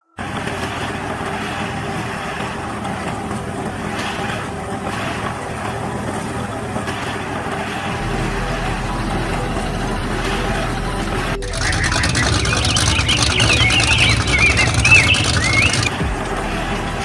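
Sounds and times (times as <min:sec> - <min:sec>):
tractor engine running: 0:00.2 - 0:17.0.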